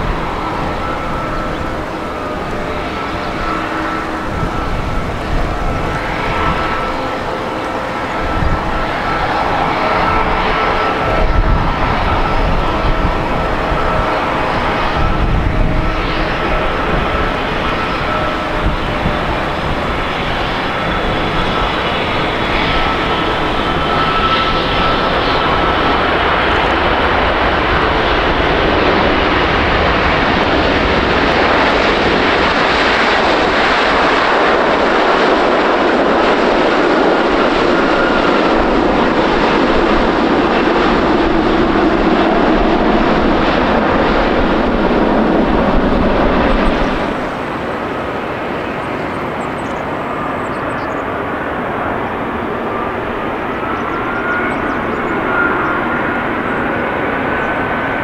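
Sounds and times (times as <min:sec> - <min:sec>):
distant jet on approach: 0:00.0 - 0:58.0
jet engines on runway: 0:00.0 - 0:58.0.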